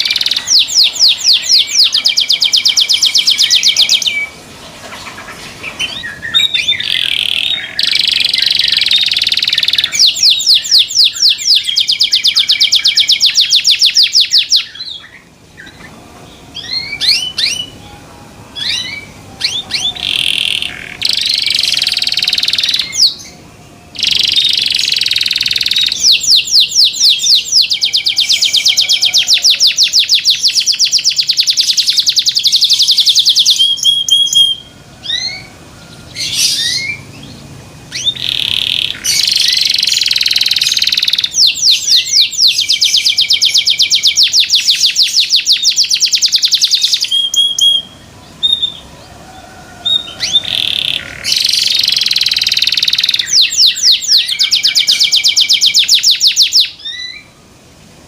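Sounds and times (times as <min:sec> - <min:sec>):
canary singing: 0:00.0 - 0:57.4.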